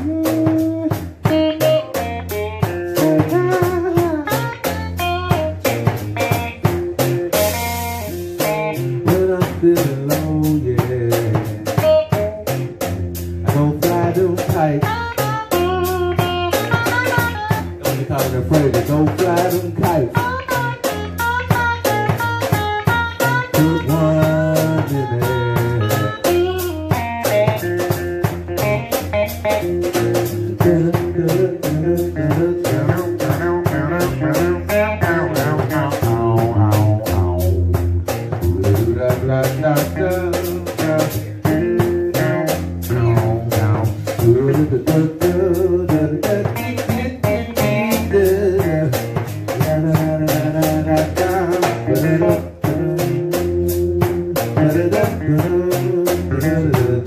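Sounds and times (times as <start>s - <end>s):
drum and cymbal beat: 0.0s - 57.0s
electric guitar lead lines: 0.0s - 57.0s.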